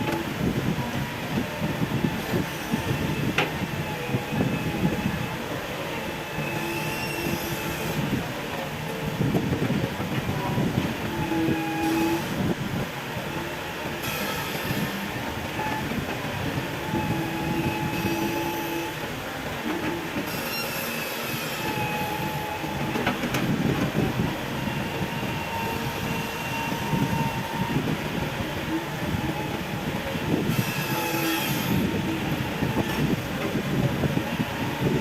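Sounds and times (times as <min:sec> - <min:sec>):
excavator diesel engine clatter: 0:00.0 - 0:35.0
hydraulic squealing whines: 0:01.2 - 0:19.1, 0:19.7 - 0:35.0.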